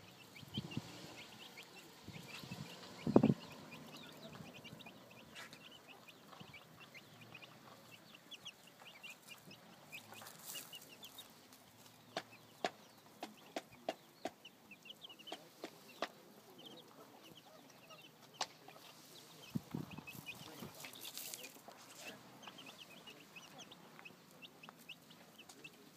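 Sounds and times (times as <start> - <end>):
chicks peeping: 0.0 - 25.9.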